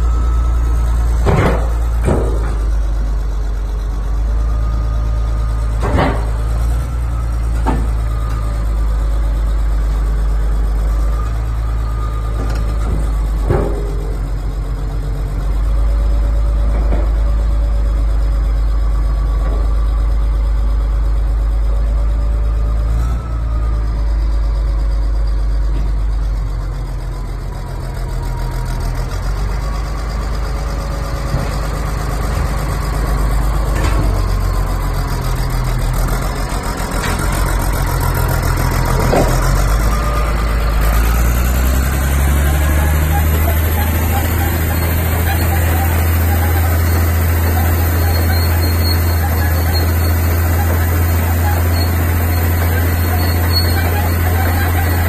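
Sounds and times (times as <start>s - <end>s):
bulldozer diesel engine idling: 0.0s - 55.0s.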